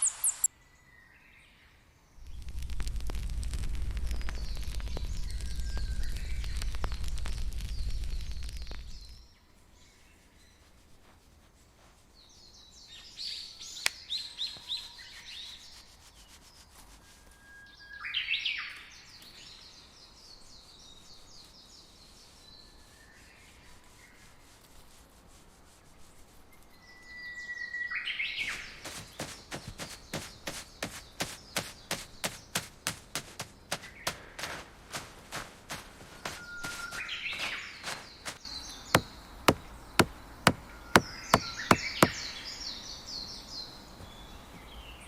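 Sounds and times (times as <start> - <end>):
small birds chirping: 0.0 - 25.2, 25.8 - 45.0
faint background hiss: 0.0 - 45.0.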